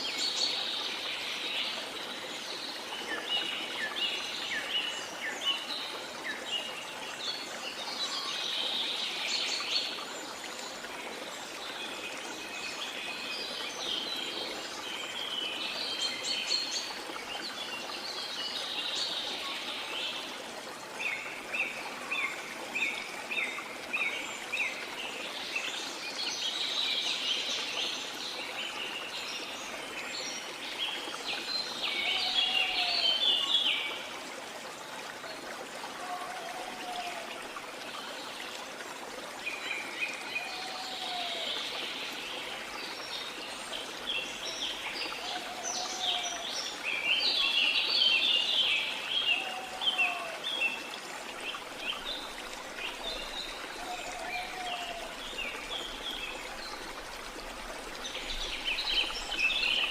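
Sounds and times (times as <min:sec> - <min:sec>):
water flowing: 0:00.0 - 0:59.9.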